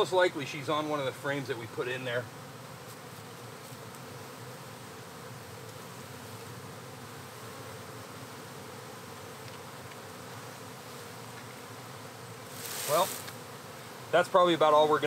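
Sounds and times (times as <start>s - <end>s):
honeybees humming in flight: 0.0s - 15.0s.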